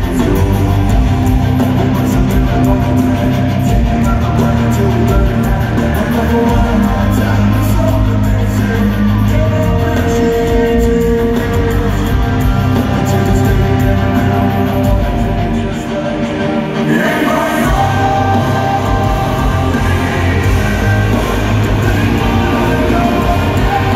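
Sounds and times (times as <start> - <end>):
rock band playing through pa: 0.0 - 23.9.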